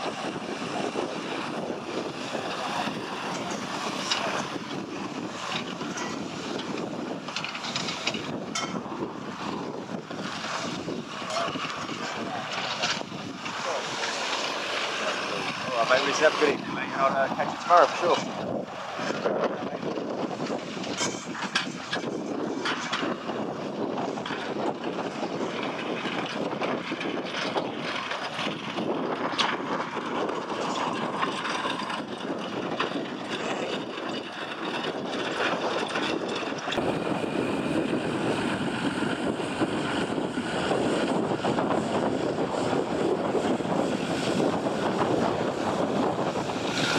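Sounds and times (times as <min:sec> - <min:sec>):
vehicle engines running: 0:00.0 - 0:46.9
wind on microphone: 0:00.0 - 0:46.9.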